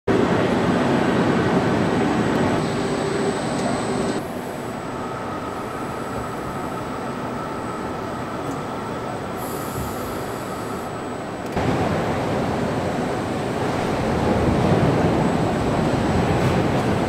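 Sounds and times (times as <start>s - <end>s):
factory machinery hum: 0.1s - 17.0s
faint high whine: 2.2s - 17.0s.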